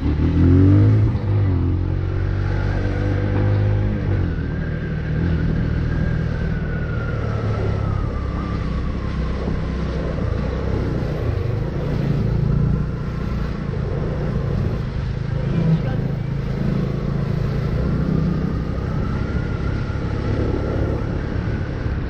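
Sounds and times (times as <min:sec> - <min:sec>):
slow heavy traffic rumble: 0:00.0 - 0:22.0.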